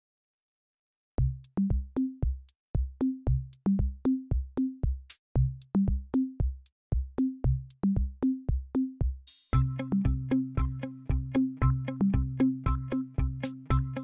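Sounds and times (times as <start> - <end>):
electronic drum-machine beat: 1.2 - 14.0.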